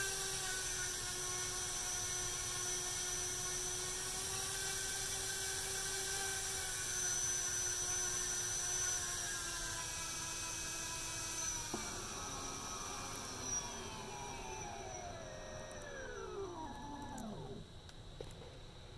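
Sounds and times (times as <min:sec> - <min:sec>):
drone motor whine: 0:00.0 - 0:18.4.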